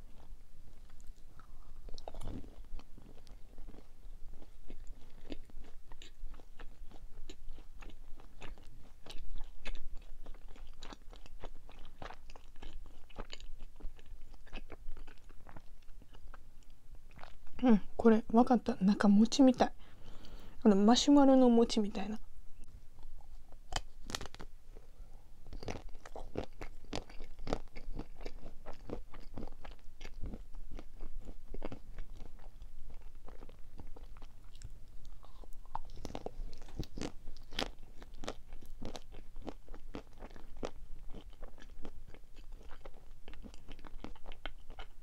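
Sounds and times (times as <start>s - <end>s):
chewing crunchy sweets: 0.0s - 17.6s, 23.0s - 45.0s.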